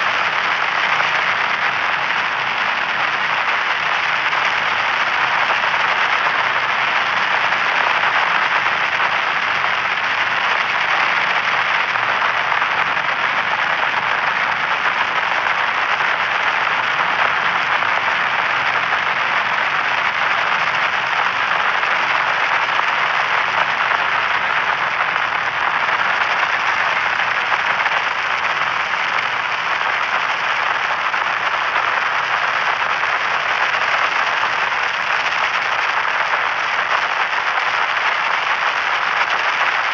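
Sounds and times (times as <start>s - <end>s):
radio static crackling hiss: 0.0s - 39.9s.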